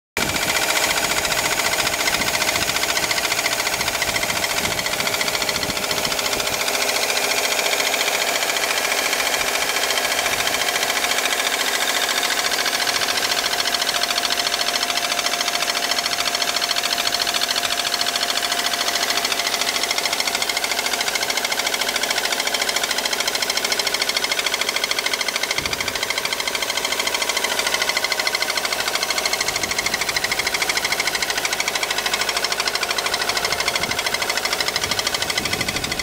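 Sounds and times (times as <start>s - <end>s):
car engine running with knocking: 0.2s - 36.0s.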